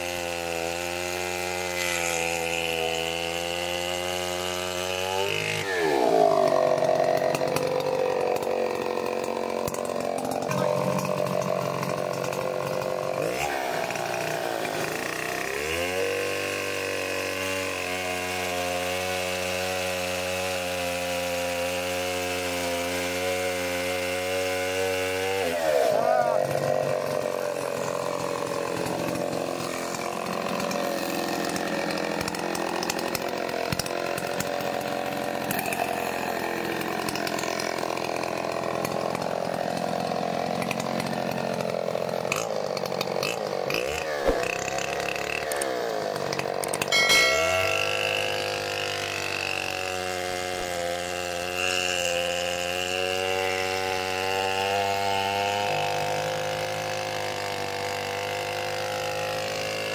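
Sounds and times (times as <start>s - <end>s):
chainsaw cutting log: 0.0s - 59.9s
chainsaw running: 0.0s - 59.9s.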